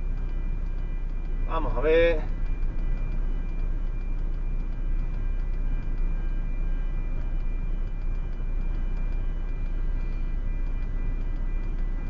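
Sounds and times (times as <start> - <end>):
faint regular ticking: 0.0 - 12.0
truck engine rumble: 0.0 - 12.0.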